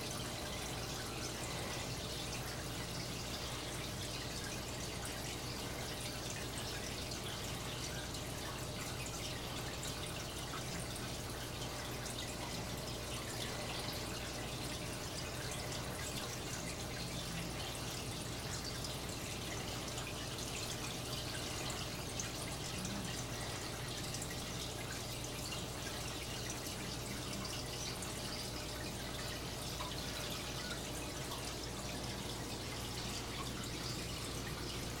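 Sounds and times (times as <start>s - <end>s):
water trickling and dripping: 0.0s - 35.0s.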